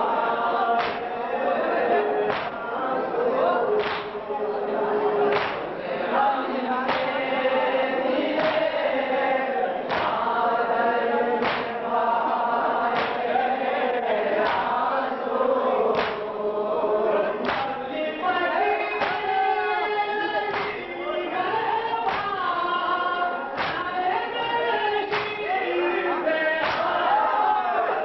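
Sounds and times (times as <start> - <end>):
men chanting a lament: 0.0 - 28.0.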